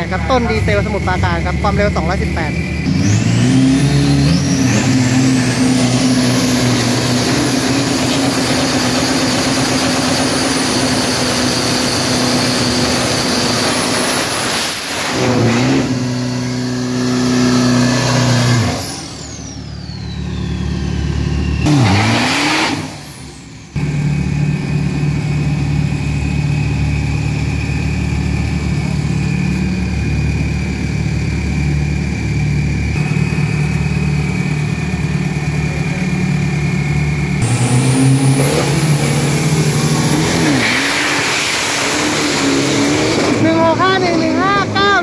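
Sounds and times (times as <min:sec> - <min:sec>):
truck engine revving: 0:00.0 - 0:45.0.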